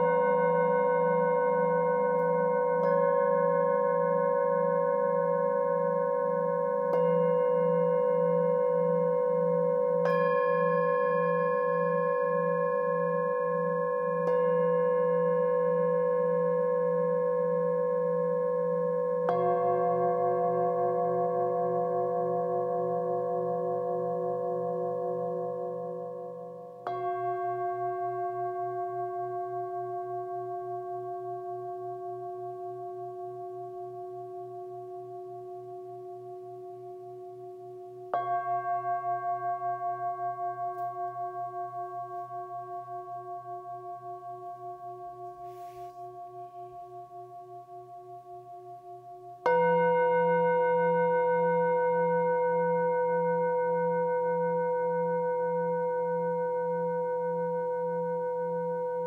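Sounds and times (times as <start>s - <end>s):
singing bowls ringing: 0.0s - 59.0s.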